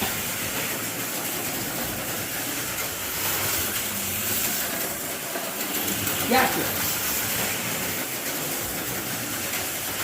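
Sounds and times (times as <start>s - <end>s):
slot cars rattling on track: 0.0s - 10.0s.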